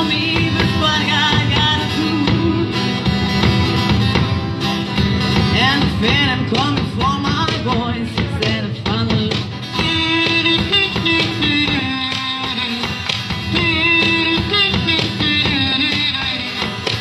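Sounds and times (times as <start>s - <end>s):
person singing: 0.0s - 3.1s, 5.5s - 17.0s
acoustic guitar strumming: 0.0s - 17.0s.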